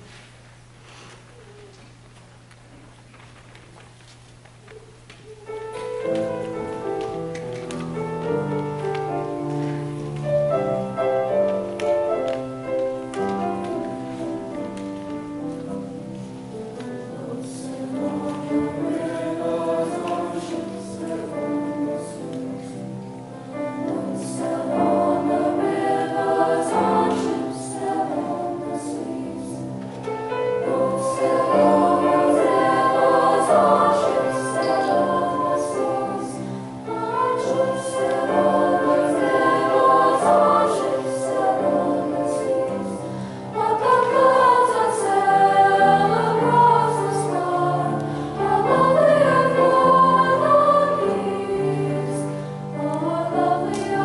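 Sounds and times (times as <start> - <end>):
choir singing in parts: 8.0 - 54.0.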